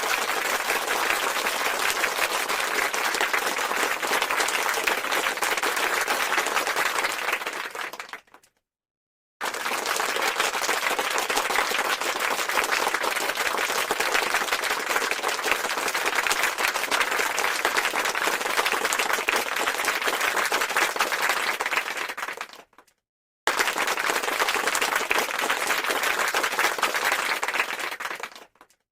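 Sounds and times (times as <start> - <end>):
applause: 0.0 - 8.6, 9.4 - 28.9.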